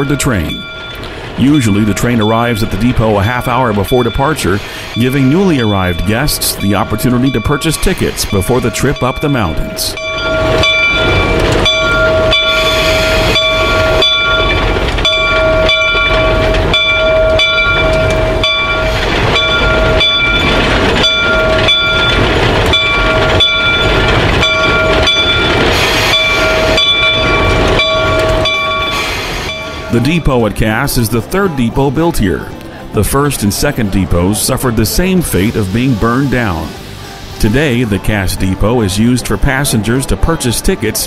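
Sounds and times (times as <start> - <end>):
steady high tone: 0.0 - 40.2
steam locomotive chuffing: 0.0 - 41.0.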